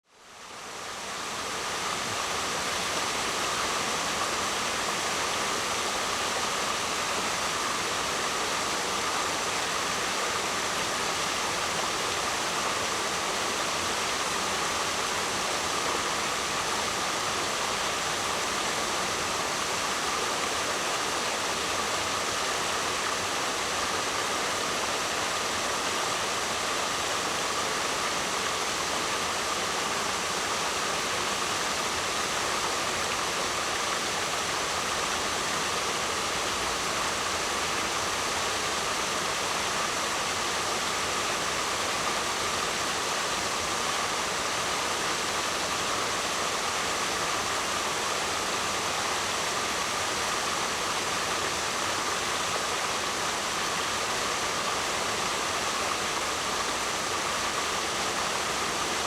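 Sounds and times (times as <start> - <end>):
waterfall rushing: 0.6 - 59.0.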